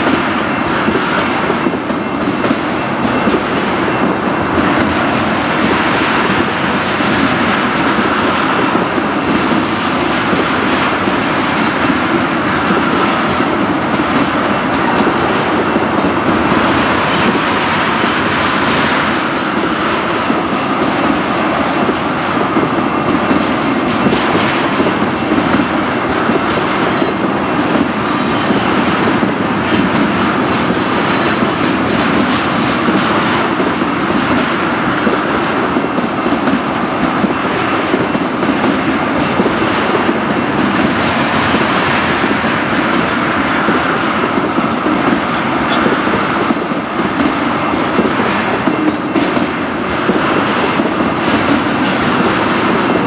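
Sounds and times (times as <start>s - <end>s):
train wheels rumbling on rail: 0.0s - 53.0s
wheels clicking over rail joints: 0.0s - 53.0s.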